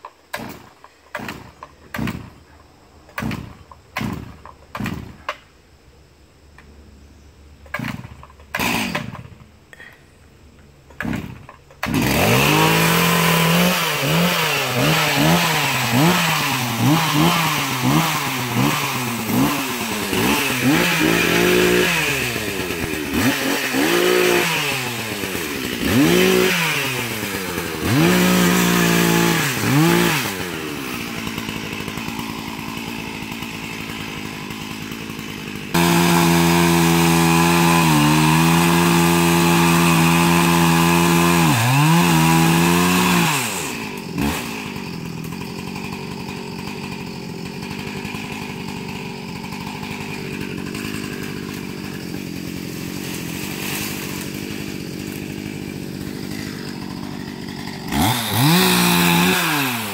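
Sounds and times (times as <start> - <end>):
chainsaw engine revving: 0.3 - 2.5, 3.1 - 5.4, 7.6 - 10.0, 10.8 - 59.9
chainsaw starter cord rips: 7.7 - 9.9, 10.9 - 59.9.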